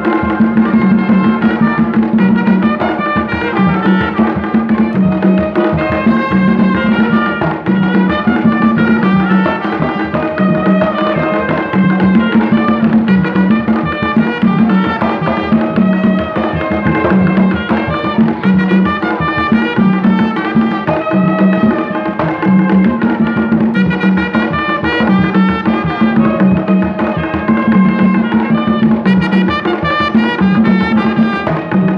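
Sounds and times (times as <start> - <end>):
folk band playing dance tune: 0.0 - 31.9
hand drums beating: 0.0 - 31.9
trumpet and brass horns melody: 0.0 - 31.9.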